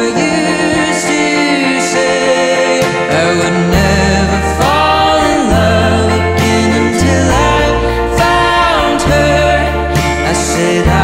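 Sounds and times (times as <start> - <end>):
person singing: 0.0 - 11.0
steady bass notes: 0.0 - 11.0.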